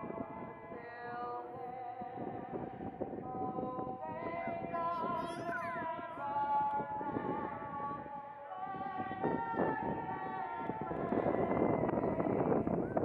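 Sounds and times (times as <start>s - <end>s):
person singing an anthem: 0.0s - 12.8s.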